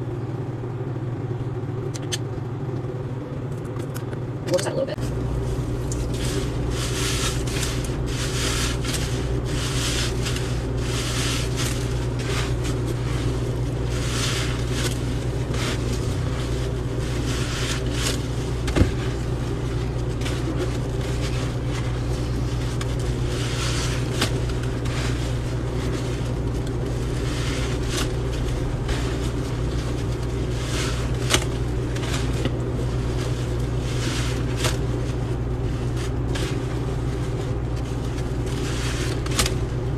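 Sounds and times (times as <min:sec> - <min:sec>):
steady low hum: 0:00.0 - 0:39.9
sponge scrubbing and squishing: 0:05.0 - 0:39.9.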